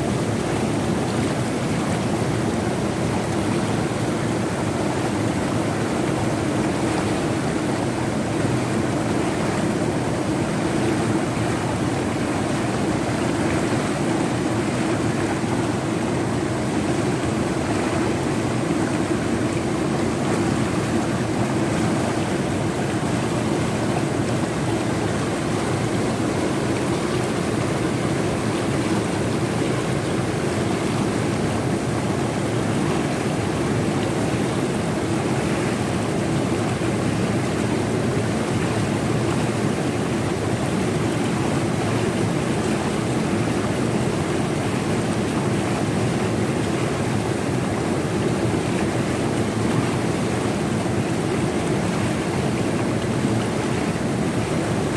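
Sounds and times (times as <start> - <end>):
fast river rushing: 0.0 - 54.9.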